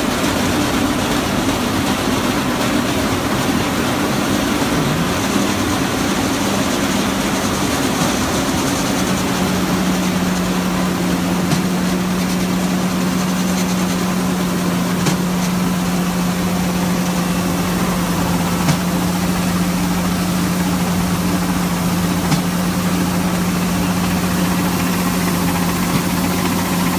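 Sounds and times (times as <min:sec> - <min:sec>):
grain auger engine humming: 0:00.0 - 0:26.9
seed pouring into hopper: 0:00.0 - 0:26.9.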